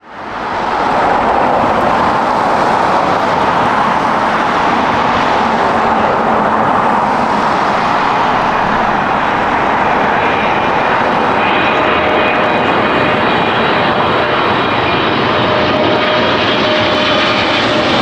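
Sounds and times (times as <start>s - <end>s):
jet engine noise: 0.0s - 18.0s.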